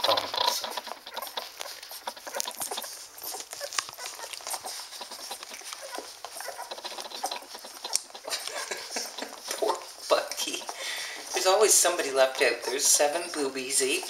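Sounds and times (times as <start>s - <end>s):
puppies suckling wet smacking: 0.0s - 14.0s
puppy squeaks and grunts: 0.0s - 14.0s.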